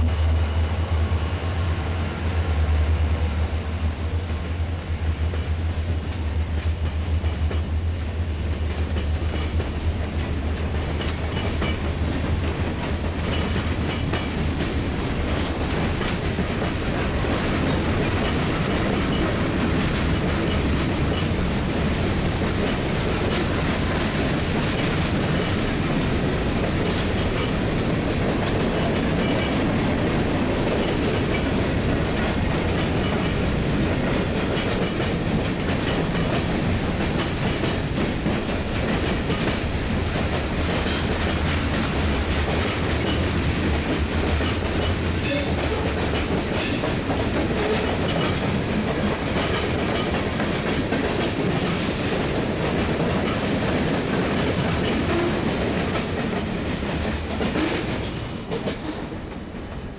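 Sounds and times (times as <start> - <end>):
freight cars rumbling on rails: 0.0 - 59.9.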